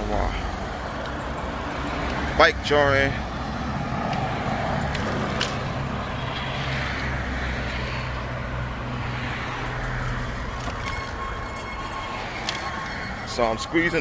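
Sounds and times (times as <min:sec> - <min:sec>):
bicycle tyre road noise: 0:00.0 - 0:14.0.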